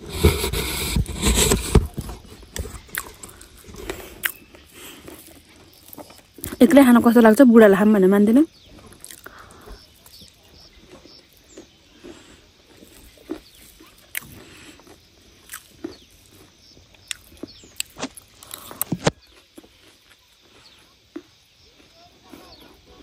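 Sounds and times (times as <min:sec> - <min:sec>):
crunchy snack chewing: 0:00.0 - 0:06.9, 0:08.6 - 0:23.0.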